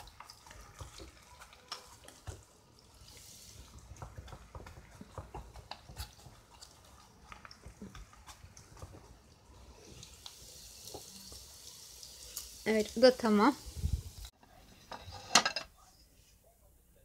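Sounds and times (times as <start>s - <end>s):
oil crackling in a pan: 0.0s - 14.4s.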